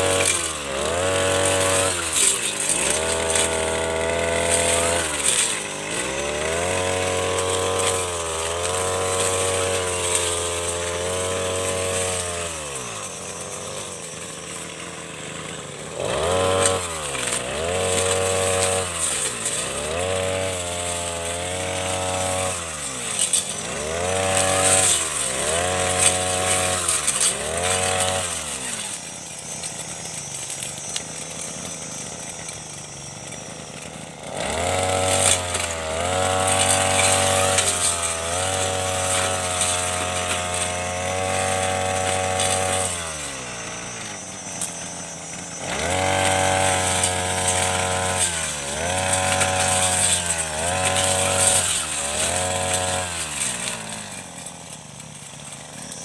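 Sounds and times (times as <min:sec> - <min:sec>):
blade cutting shrubs: 0:00.0 - 0:56.0
brush cutter engine revving: 0:00.0 - 0:56.0.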